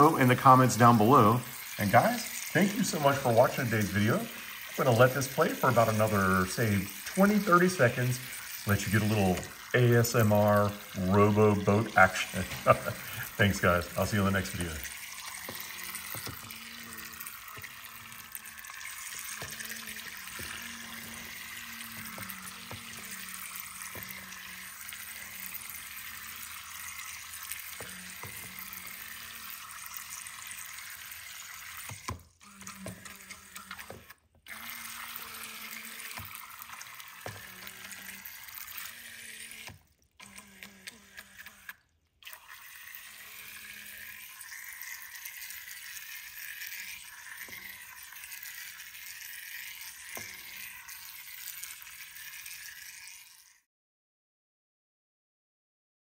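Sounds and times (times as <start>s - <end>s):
toy boat propellers splashing: 0.0s - 53.7s.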